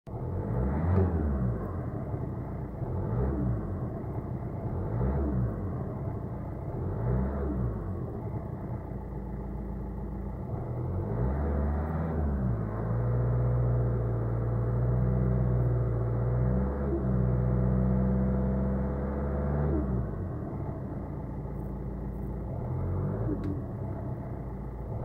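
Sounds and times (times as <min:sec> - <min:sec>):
diesel engine running: 0:00.1 - 0:25.0.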